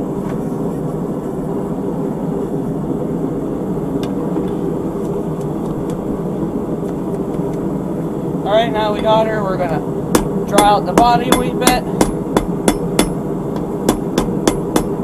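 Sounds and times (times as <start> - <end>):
forge roaring: 0.0 - 15.0.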